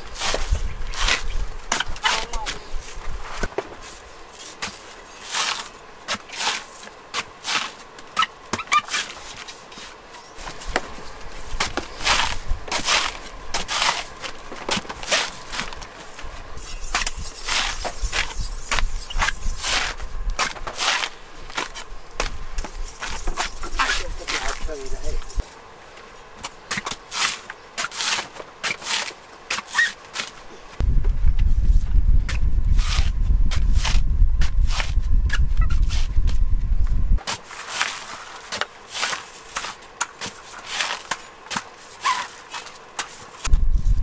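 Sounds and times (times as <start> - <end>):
blade cutting coconut husk: 0.0 - 30.6, 32.3 - 36.3, 37.2 - 43.9.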